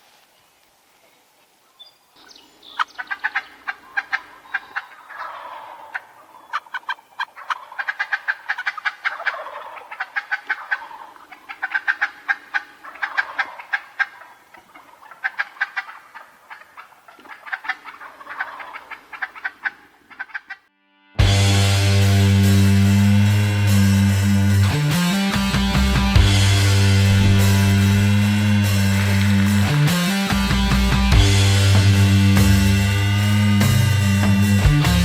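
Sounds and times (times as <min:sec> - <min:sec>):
turkeys gobbling: 0:02.6 - 0:20.7, 0:21.5 - 0:35.0.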